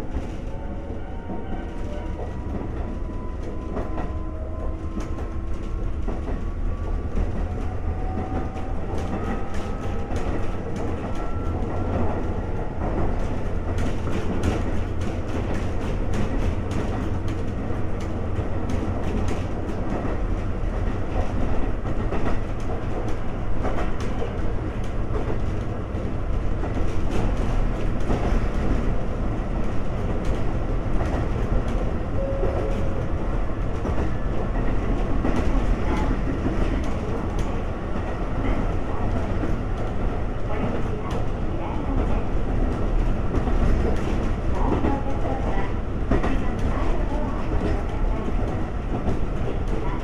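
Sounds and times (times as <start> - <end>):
train wheels rumbling: 0.0 - 50.0.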